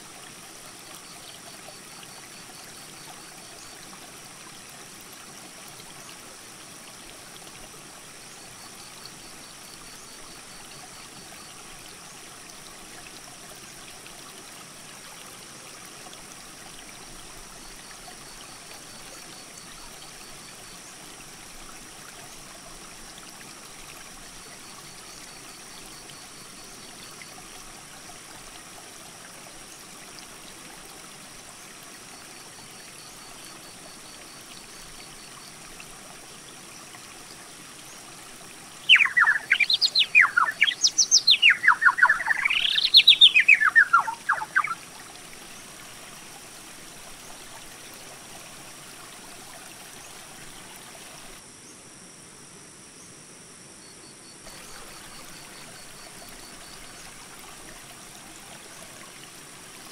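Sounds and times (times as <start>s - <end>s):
creek water rushing: 0.0s - 51.4s, 54.5s - 59.9s.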